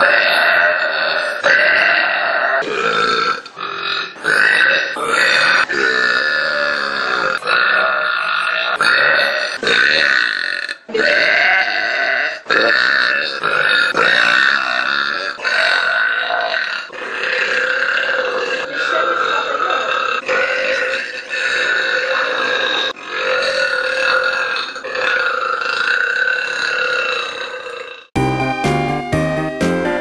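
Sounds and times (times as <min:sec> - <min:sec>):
woman burping loudly: 0:00.0 - 0:28.2.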